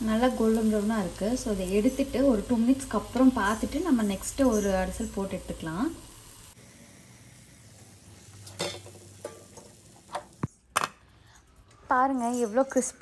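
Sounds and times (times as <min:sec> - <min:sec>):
oil sizzling: 0:00.0 - 0:10.6.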